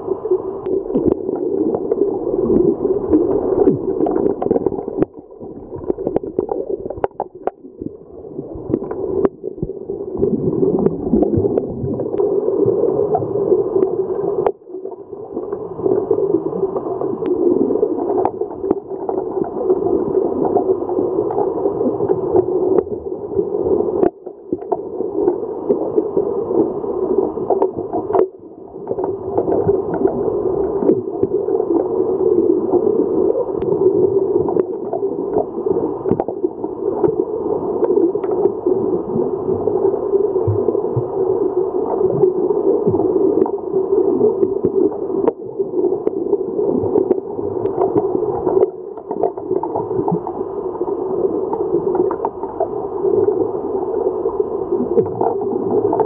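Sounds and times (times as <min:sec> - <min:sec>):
underwater churning and gurgling: 0:00.0 - 0:56.0.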